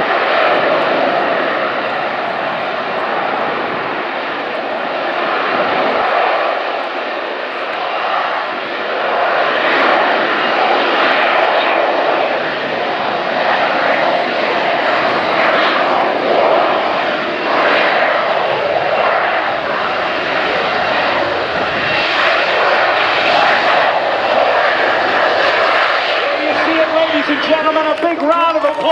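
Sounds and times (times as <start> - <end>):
jet engine roaring: 0.0 - 28.9.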